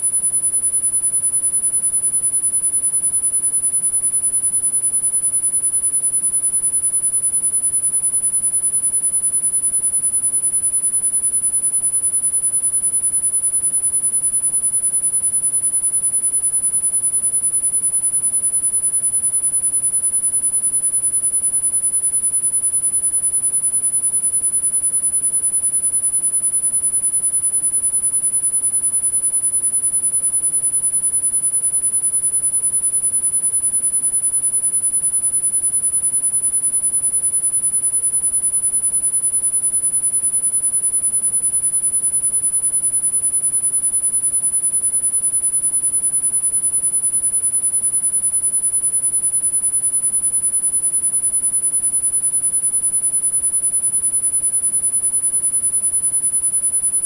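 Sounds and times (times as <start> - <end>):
high-pitched sine tone: 0.0 - 57.0.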